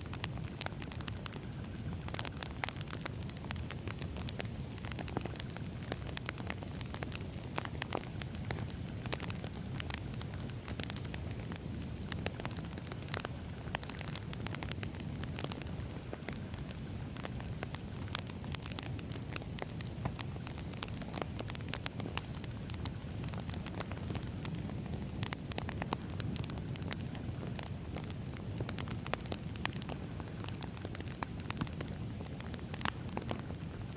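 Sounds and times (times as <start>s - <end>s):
logs crackling and popping: 0.0s - 33.9s
wood fire rumbling: 0.0s - 33.9s.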